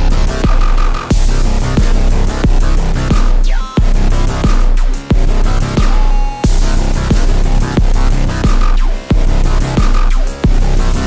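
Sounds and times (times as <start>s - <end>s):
dubstep track with heavy bass: 0.0s - 11.0s.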